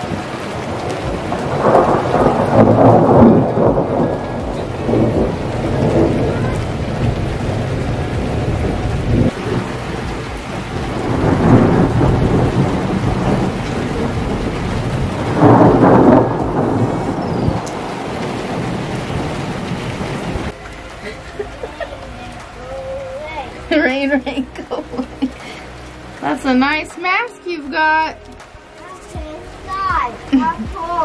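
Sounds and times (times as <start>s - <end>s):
steady rain: 0.0s - 31.0s
thunder rumbling: 0.0s - 31.0s.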